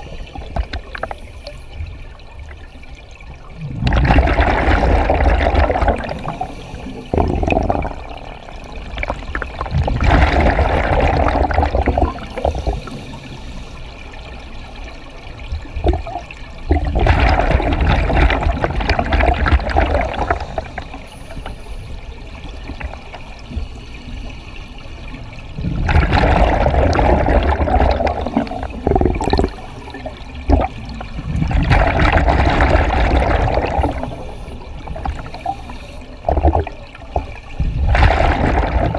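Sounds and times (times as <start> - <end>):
exhaled bubbles underwater: 0.0 - 38.9.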